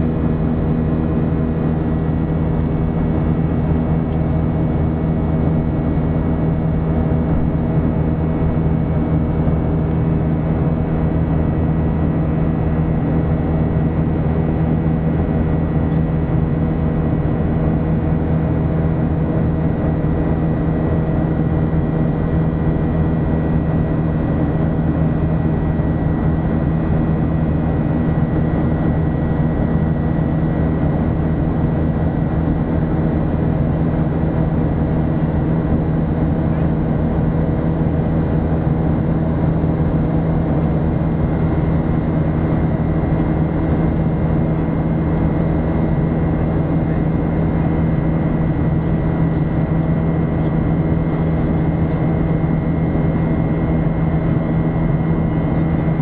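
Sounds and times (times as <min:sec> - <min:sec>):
jet engine drone with whine: 0:00.0 - 0:56.0.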